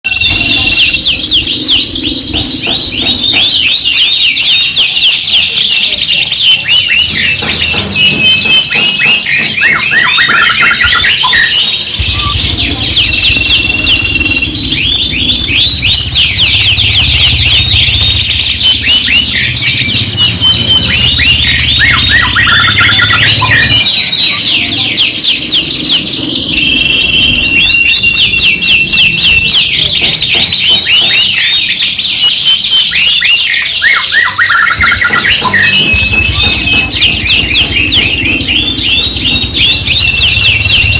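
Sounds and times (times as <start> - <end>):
canaries singing: 0.0 - 40.9.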